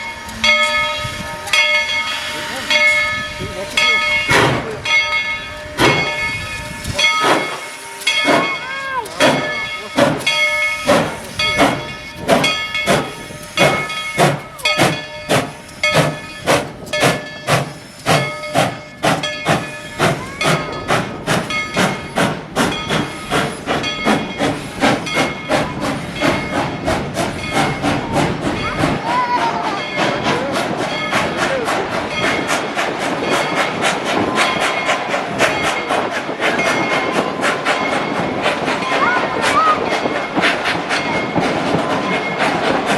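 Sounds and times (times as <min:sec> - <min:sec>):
steam hissing: 0:00.0 - 0:42.9
steam locomotive chuffing: 0:00.0 - 0:42.9.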